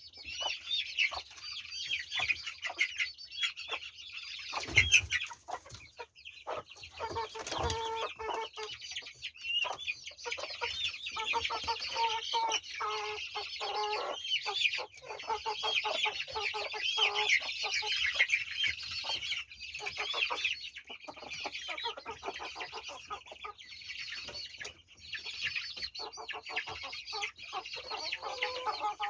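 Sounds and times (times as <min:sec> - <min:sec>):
chickens clucking: 0:00.0 - 0:29.0
chickens peeping: 0:00.0 - 0:29.0.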